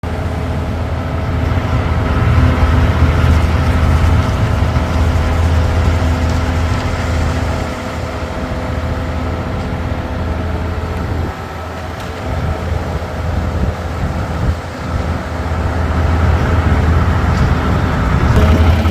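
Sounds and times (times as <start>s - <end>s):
diesel engine humming: 0.0s - 18.9s.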